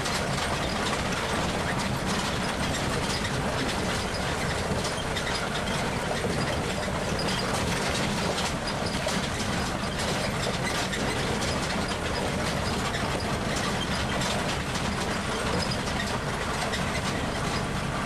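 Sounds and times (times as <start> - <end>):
tram engine running: 0.0 - 18.0
vehicle rattling and clicking: 0.0 - 18.0.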